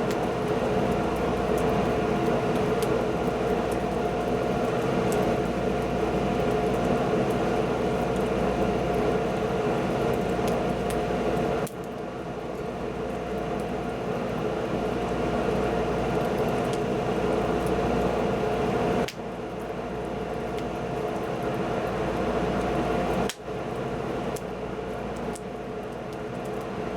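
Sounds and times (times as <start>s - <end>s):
wood fire roaring and crackling: 0.0s - 26.9s.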